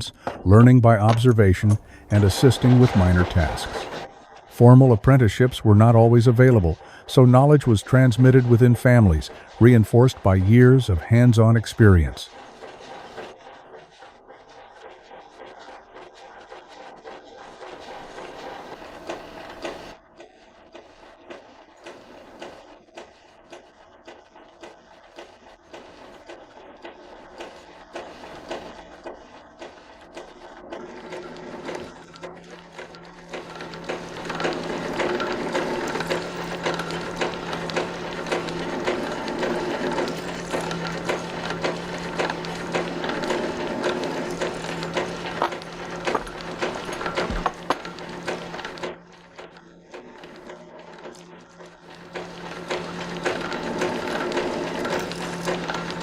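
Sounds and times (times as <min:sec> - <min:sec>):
machine humming with rapid ticking: 0:01.0 - 0:56.0
mechanical clicking and clatter: 0:01.1 - 0:56.0.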